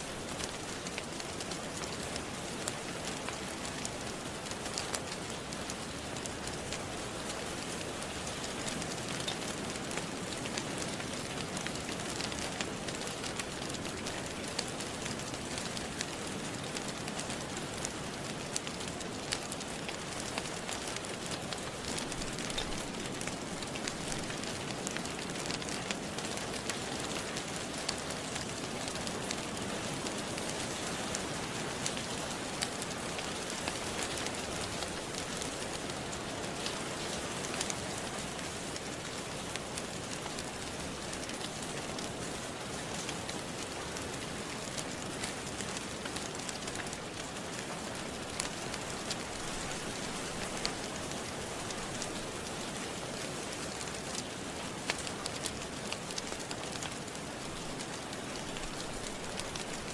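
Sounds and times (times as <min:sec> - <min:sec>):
steady rain falling: 0:00.0 - 0:59.9
wood fire crackling: 0:00.0 - 0:59.9.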